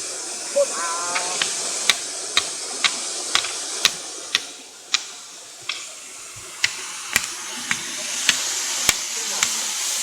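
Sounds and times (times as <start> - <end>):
falling water hiss: 0.0 - 10.0.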